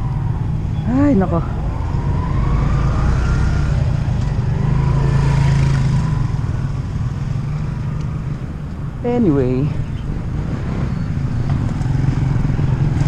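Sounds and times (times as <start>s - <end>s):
road noise rush: 0.0s - 13.0s.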